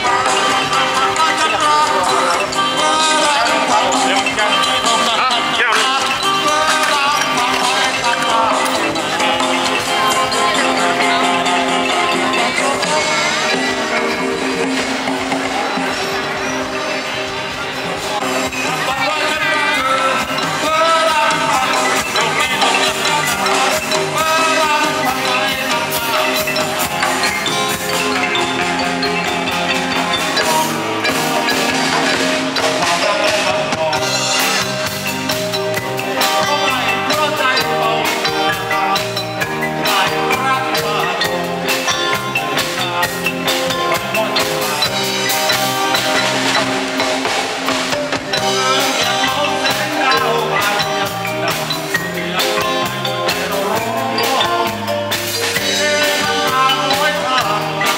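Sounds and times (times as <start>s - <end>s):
drum kit: 0.0s - 57.9s
electric guitars: 0.0s - 57.9s
keyboard: 0.0s - 57.9s.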